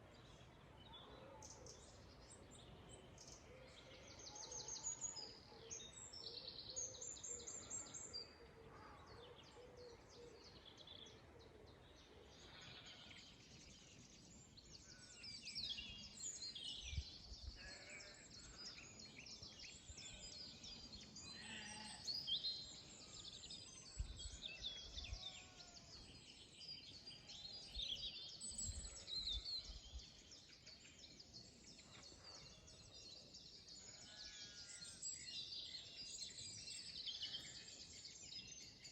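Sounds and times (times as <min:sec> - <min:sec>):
faint birdsong: 0:00.0 - 0:38.9.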